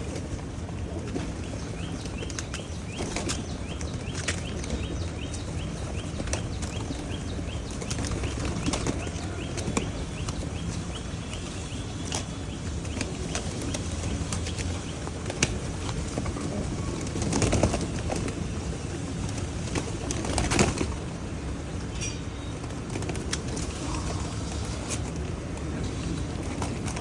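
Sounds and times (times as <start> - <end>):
pigeon wings flapping: 0.0 - 21.5, 22.5 - 27.0.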